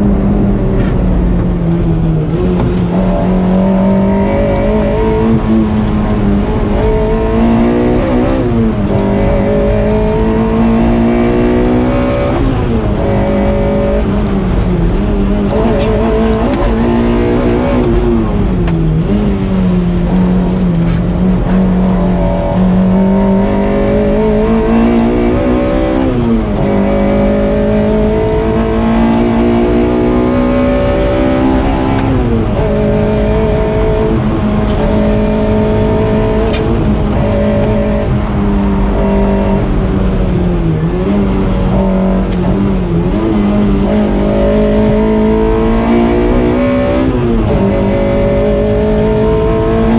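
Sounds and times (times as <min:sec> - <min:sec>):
car engine accelerating hard: 0:00.0 - 0:49.9.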